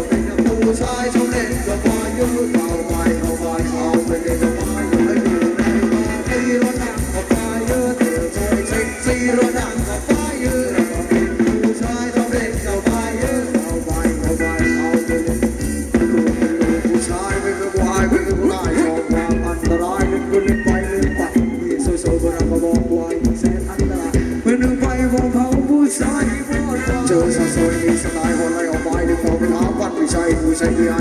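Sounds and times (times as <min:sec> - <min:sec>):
live band music: 0:00.0 - 0:31.0
steady drum kit beat: 0:00.0 - 0:31.0.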